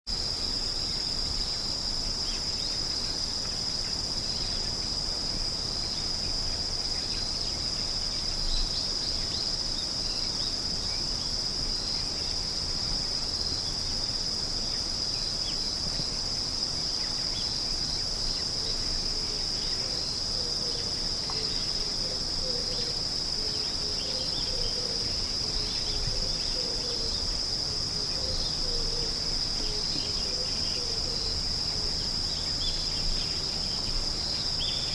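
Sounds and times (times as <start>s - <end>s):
insects trilling: 0.1s - 34.9s
low insect chirps: 0.1s - 34.9s.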